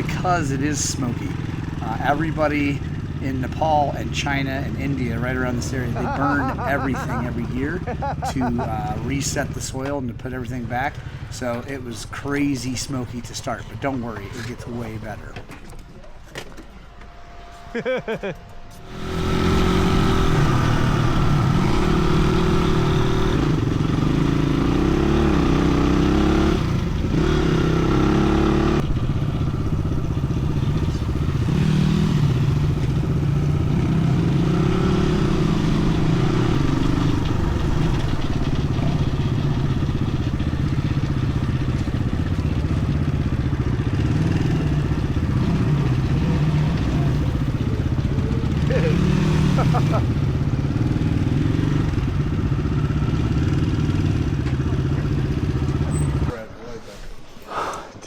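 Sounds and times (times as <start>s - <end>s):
dirt bike engine revving: 0.0s - 15.2s, 17.8s - 56.3s.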